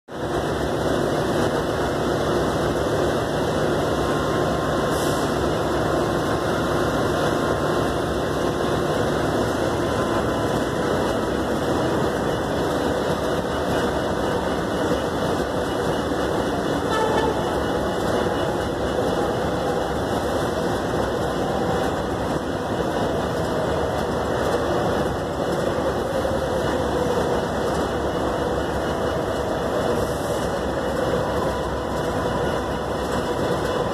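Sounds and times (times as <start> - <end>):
diesel locomotive engine running: 0.0 - 33.9.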